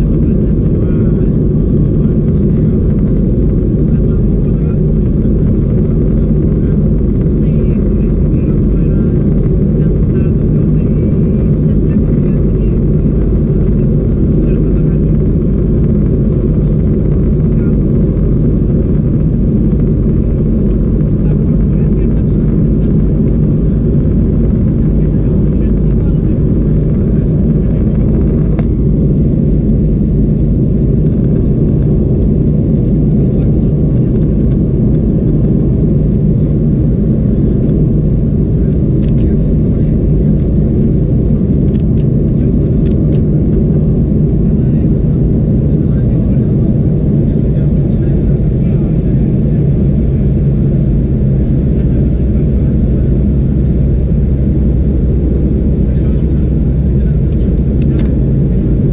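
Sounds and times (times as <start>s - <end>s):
air rushing along fuselage: 0.0s - 58.9s
airplane cabin engine drone: 0.0s - 58.9s.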